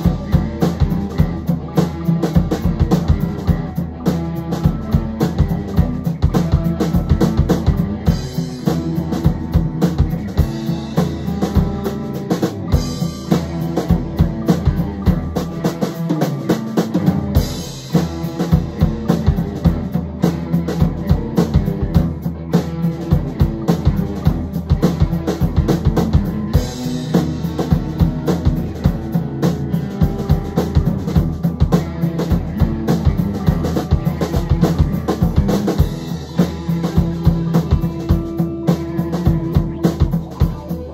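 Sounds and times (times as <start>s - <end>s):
drum kit beat: 0.0s - 40.9s
electric guitars: 0.0s - 40.9s
rock band playing: 0.0s - 40.9s.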